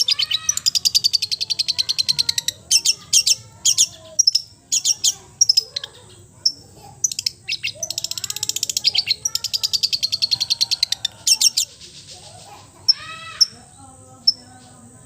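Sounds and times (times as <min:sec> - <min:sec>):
songbirds chattering: 0:00.0 - 0:15.0.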